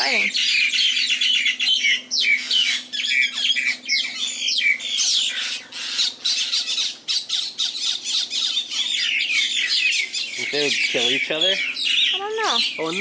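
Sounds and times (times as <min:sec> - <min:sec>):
birds squawking harshly: 0:00.0 - 0:13.0.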